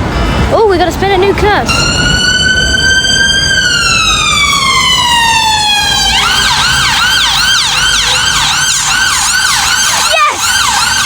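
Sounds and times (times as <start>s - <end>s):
electronic siren wailing and yelping: 1.7s - 11.0s.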